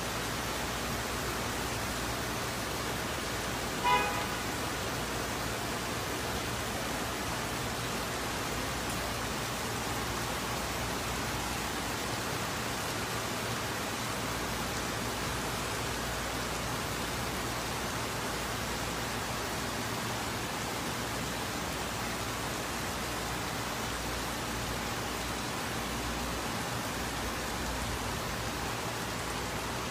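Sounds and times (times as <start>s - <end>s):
heavy rain on flooded street: 0.0s - 29.9s.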